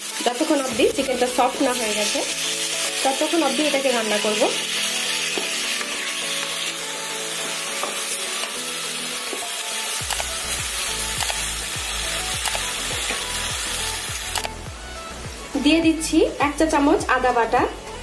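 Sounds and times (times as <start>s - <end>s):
chicken sizzling in butter: 0.0s - 14.5s.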